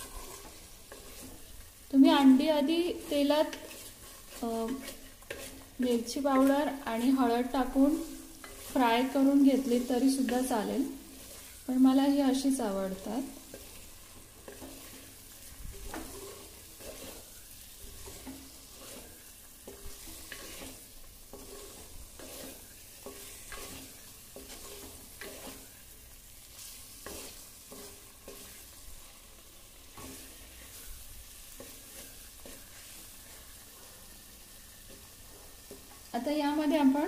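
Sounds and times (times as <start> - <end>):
oil sizzling: 0.0 - 37.0
wooden spatula stirring in pot: 0.0 - 37.0.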